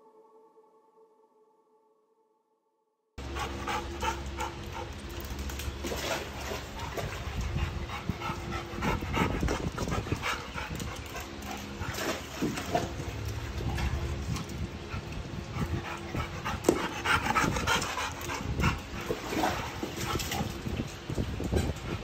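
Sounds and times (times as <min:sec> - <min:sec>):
dogs panting: 0:03.2 - 0:22.0.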